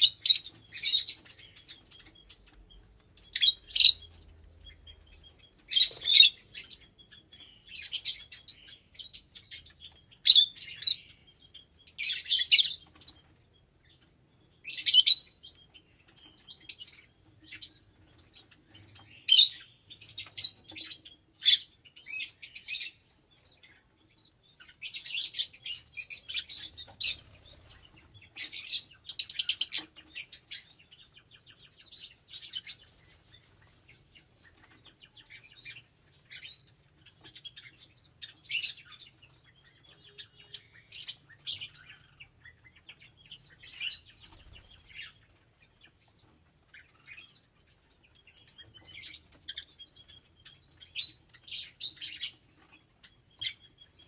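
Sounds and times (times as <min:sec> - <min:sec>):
parrots chirping: 0:00.0 - 0:23.9, 0:24.6 - 0:54.0.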